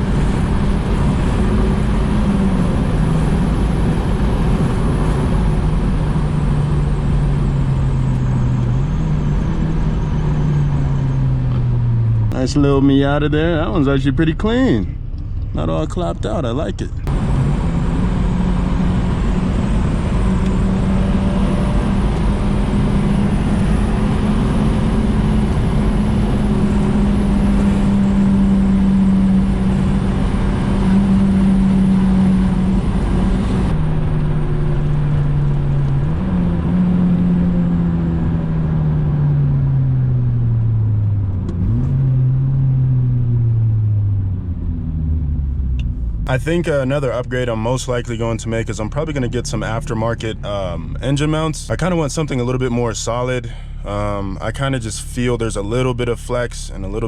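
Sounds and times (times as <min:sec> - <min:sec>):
car engine running: 0:00.0 - 0:57.0
road noise: 0:00.0 - 0:57.0.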